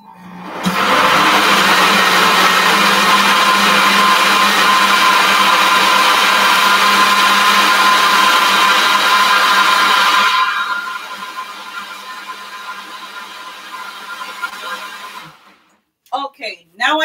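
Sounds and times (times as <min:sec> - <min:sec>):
blender running at high speed: 0:00.1 - 0:15.6.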